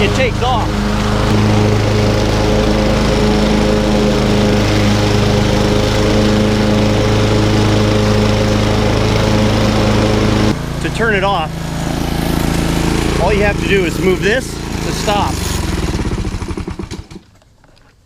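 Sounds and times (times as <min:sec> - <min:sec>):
lawn mower running: 0:00.0 - 0:17.9.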